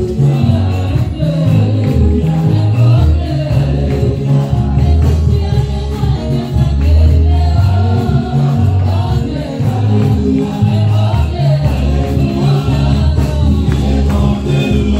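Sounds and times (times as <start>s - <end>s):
group of voices singing: 0.0s - 14.9s
prominent bass line: 0.0s - 14.9s.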